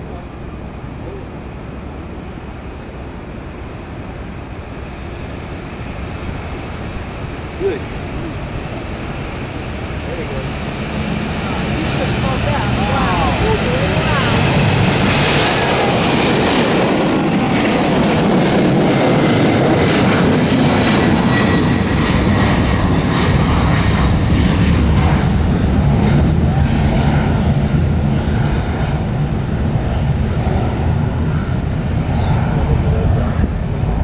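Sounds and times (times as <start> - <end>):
faint high whine: 0.0 - 34.0
jet engines roaring: 0.0 - 34.0.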